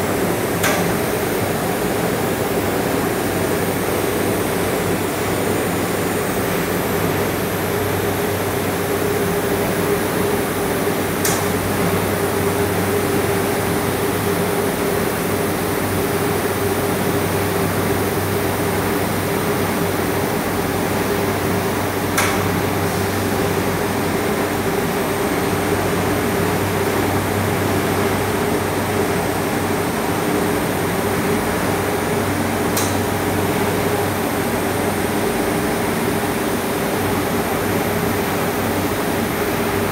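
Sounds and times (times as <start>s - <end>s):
fans and machinery humming: 0.0s - 39.9s.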